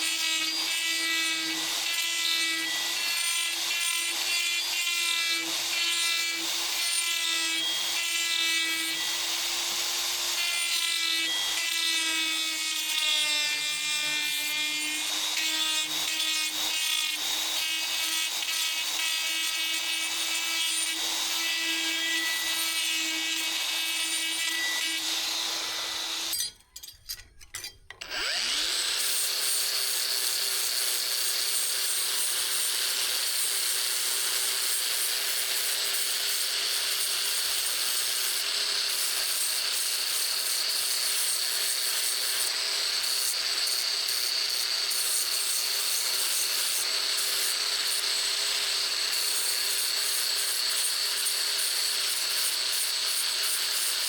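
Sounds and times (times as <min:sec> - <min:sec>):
power tool grinding steel: 0:00.0 - 0:54.0.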